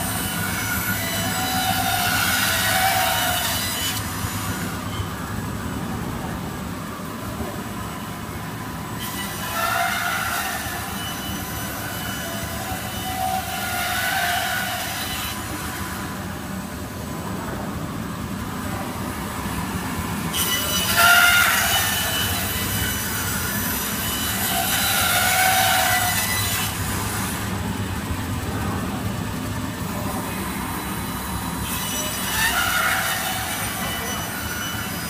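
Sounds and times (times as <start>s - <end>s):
band saw cutting wood: 0.0s - 17.0s, 18.5s - 35.0s.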